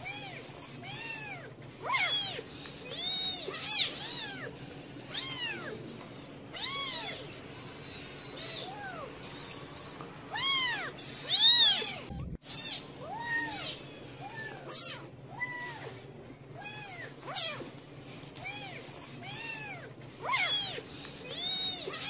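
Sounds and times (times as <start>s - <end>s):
kittens mewing: 0.0s - 22.0s.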